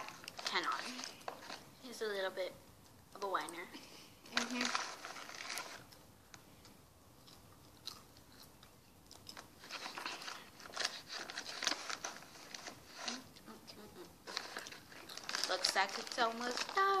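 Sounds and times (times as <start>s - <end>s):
popcorn being chewed: 0.0s - 1.7s, 4.3s - 17.0s.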